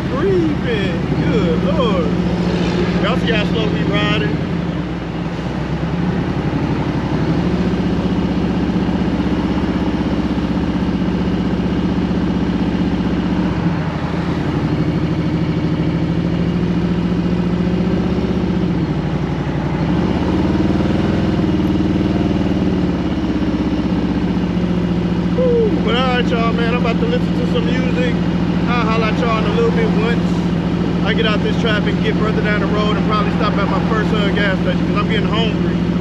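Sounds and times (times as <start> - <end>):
motorcycle engine at low revs: 0.0 - 36.0.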